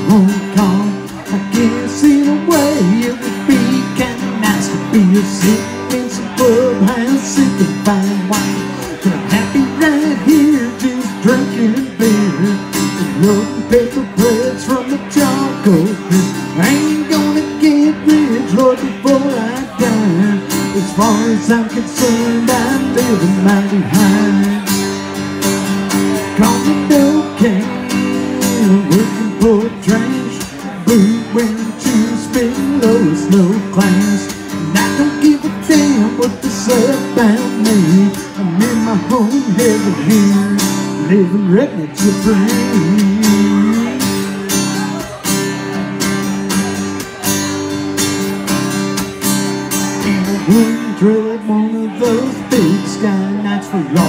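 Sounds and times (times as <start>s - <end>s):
acoustic guitar strumming: 0.0s - 54.0s
person singing country song: 0.0s - 54.0s.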